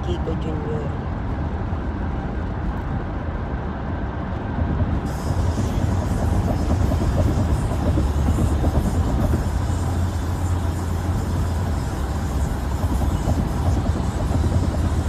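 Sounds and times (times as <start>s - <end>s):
car road noise: 0.0s - 15.0s.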